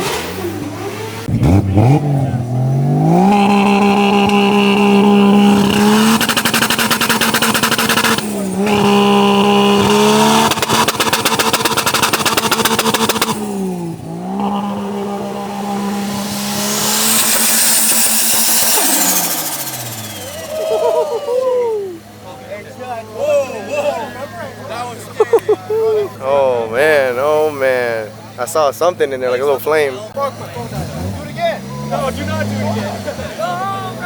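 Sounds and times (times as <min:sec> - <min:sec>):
car engine revving with crackling: 0:00.0 - 0:20.9, 0:27.1 - 0:34.0.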